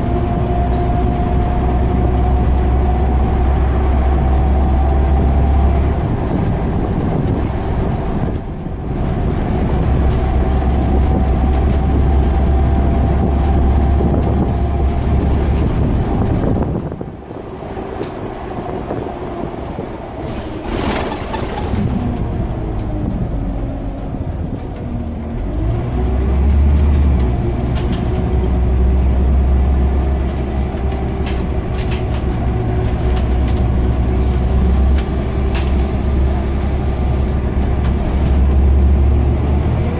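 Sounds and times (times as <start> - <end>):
diesel bus engine drone: 0.0 - 39.9
drivetrain whine: 0.0 - 39.9.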